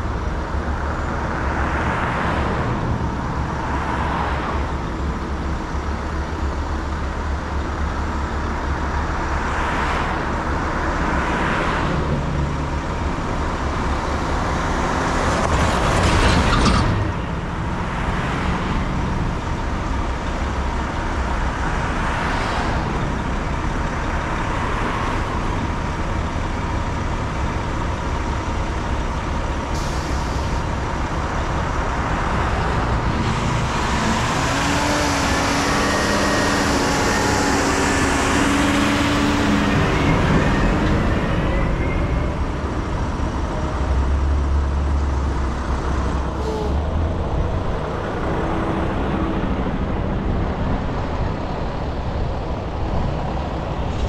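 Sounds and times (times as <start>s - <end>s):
traffic hum: 0.0s - 54.0s
vehicles passing: 0.0s - 54.0s.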